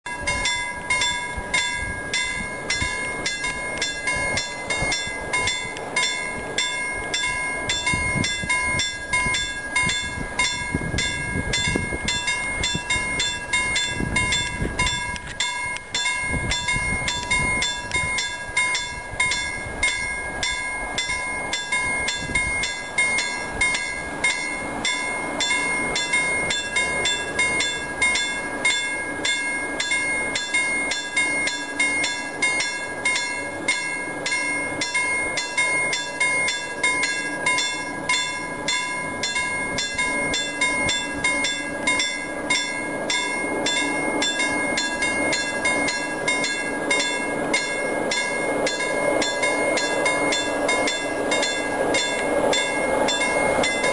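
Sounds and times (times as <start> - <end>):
level crossing warning bell: 0.1 - 53.9.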